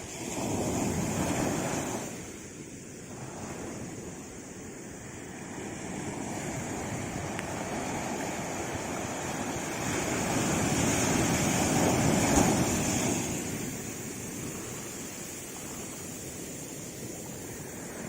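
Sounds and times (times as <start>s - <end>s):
sea waves washing in: 0.0s - 18.0s.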